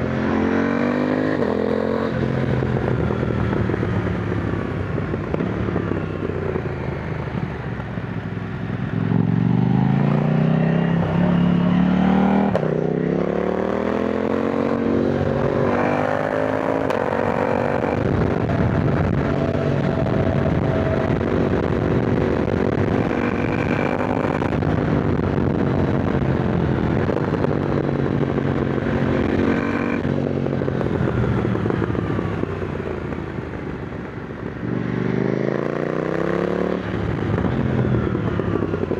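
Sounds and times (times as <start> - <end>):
motorcycle engine revving: 0.0 - 38.9
wind and road rush: 0.0 - 38.9.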